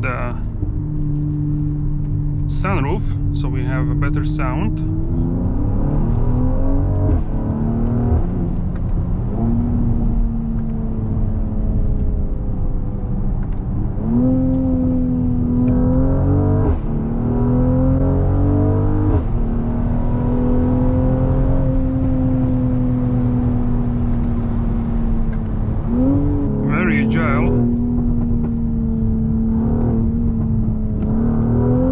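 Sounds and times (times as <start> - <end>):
car engine accelerating hard: 0.0 - 31.9.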